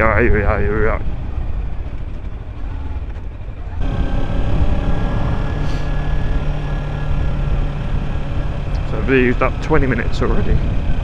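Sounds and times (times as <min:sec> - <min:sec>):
wind rumbling on microphone: 0:00.0 - 0:11.0
motorcycle engine running: 0:00.4 - 0:11.0.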